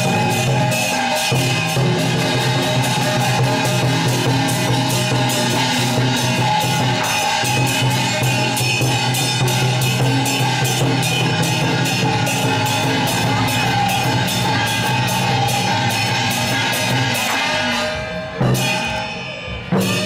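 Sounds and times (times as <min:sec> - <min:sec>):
drums beating: 0:00.0 - 0:20.0.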